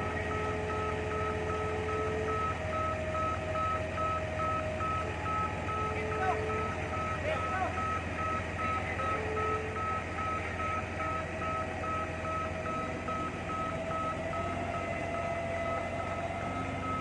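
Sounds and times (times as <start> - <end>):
forklift engine hum: 0.0 - 17.0
reversing alarm beeping: 0.0 - 17.0.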